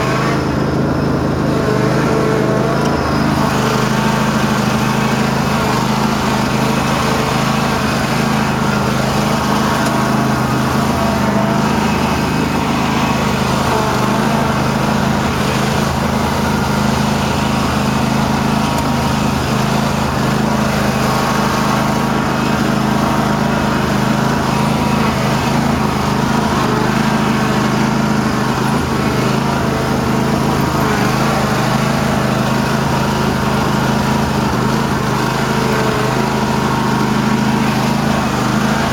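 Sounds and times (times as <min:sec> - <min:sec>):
garden tractor engine running: 0:00.0 - 0:38.9.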